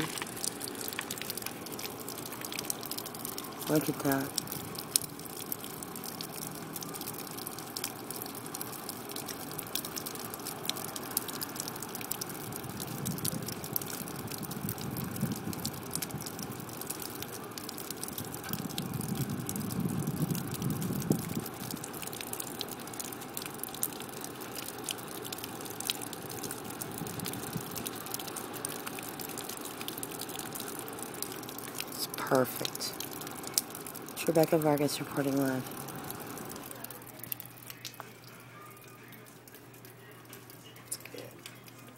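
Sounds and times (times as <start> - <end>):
rain falling: 0.0 - 41.9.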